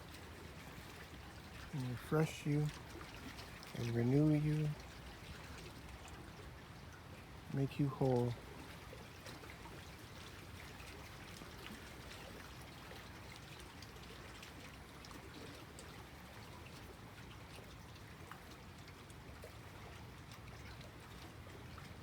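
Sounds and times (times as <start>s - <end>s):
waves lapping at shore: 0.0s - 22.0s.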